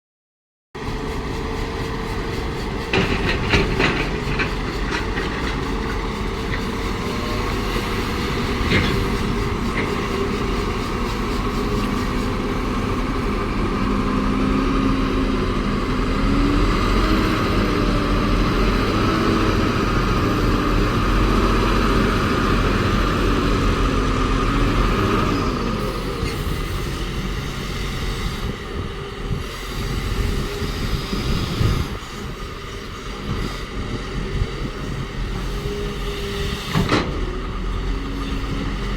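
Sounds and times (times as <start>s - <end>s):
excavator diesel engine: 0.8s - 38.9s.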